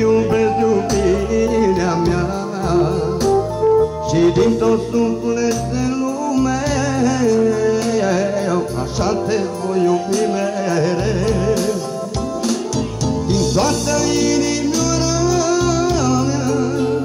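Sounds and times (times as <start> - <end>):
instrumental accompaniment: 0.0 - 17.0
person singing with vibrato: 0.0 - 17.0.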